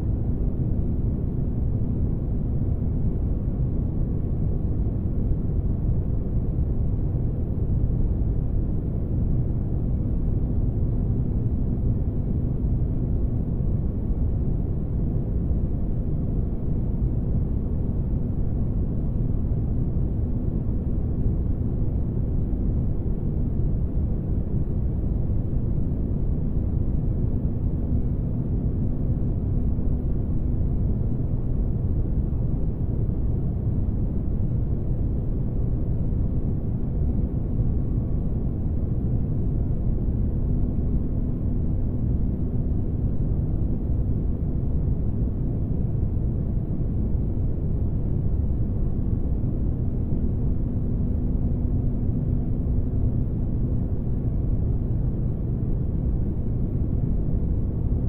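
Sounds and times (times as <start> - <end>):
faint hum: 0.0 - 58.0.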